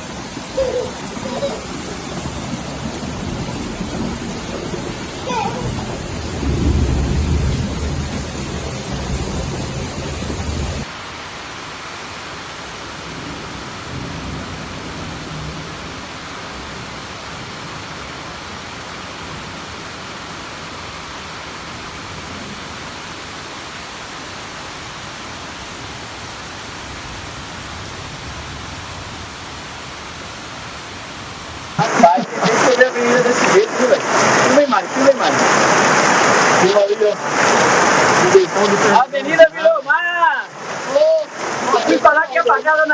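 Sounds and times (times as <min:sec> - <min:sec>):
heavy rain pouring: 0:00.0 - 0:42.9.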